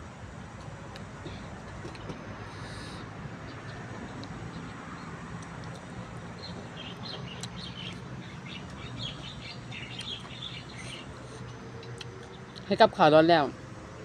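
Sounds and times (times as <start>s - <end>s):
small birds chirping: 1.2s - 13.5s.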